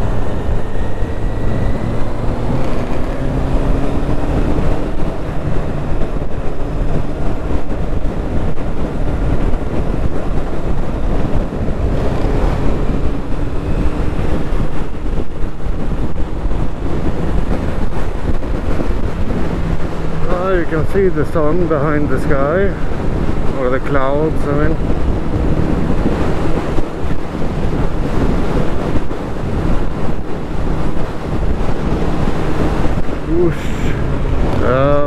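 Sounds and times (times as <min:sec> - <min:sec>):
motorcycle engine: 0:00.0 - 0:35.0
wind noise on helmet microphone: 0:00.0 - 0:35.0.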